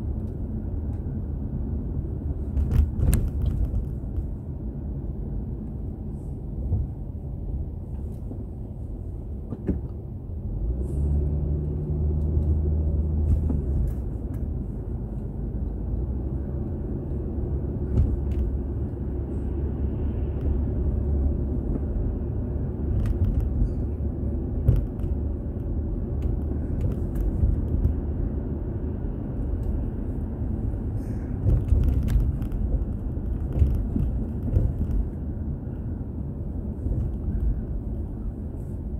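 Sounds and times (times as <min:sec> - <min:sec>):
engine and road noise: 0:00.0 - 0:38.9.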